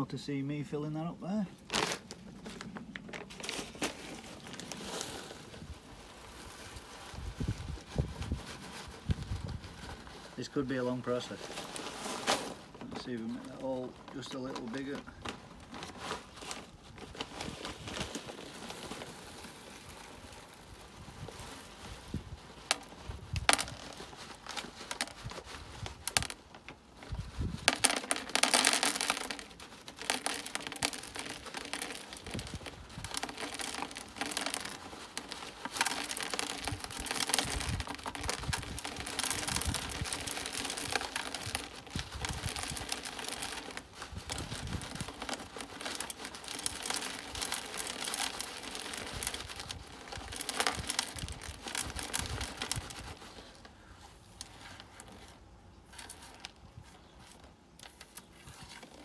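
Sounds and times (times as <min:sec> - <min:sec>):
plastic bag crinkling: 0:01.5 - 0:59.0
granules pattering into plastic dome: 0:01.6 - 0:59.0.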